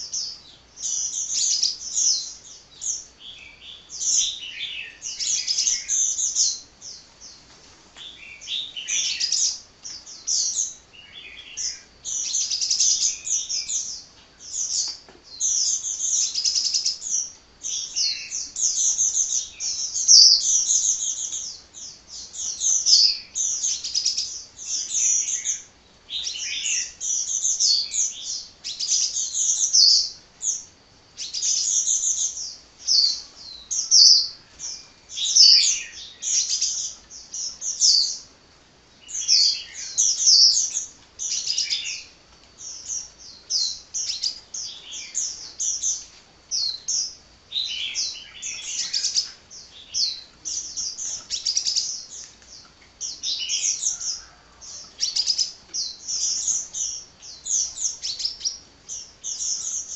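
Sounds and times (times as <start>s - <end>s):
sunbird singing: 0.0s - 59.9s.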